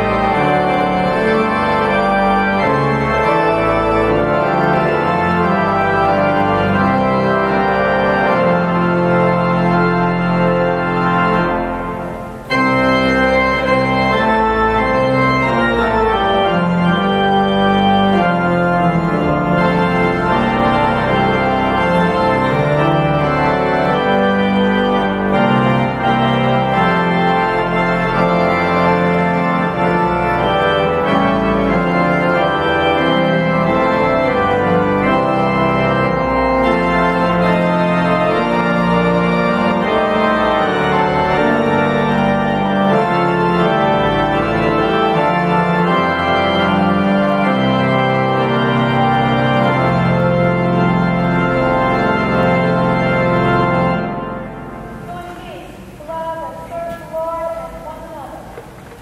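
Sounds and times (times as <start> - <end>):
church organ playing chords: 0.0 - 58.1.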